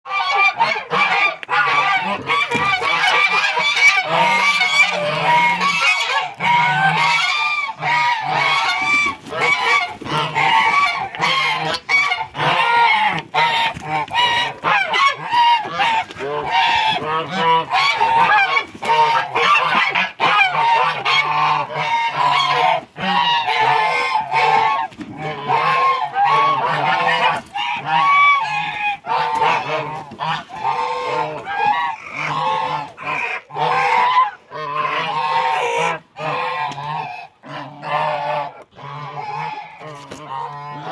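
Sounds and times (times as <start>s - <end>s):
geese honking: 0.1s - 40.9s.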